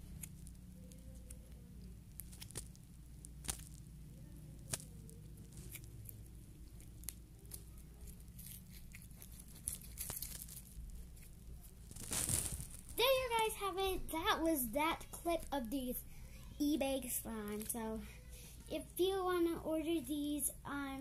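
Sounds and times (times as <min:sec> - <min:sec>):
slime stretching crackle: 0:00.0 - 0:18.0
steady low hum: 0:00.0 - 0:21.0.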